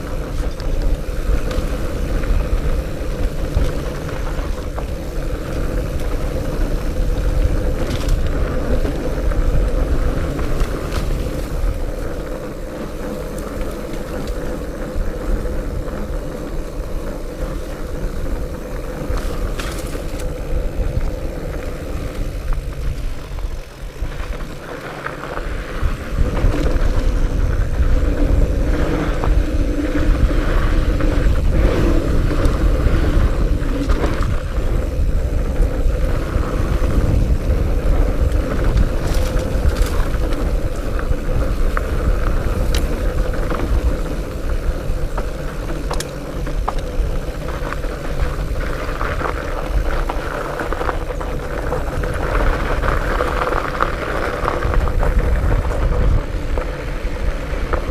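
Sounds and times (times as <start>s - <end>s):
bike tires rolling on dirt: 0.0s - 57.9s.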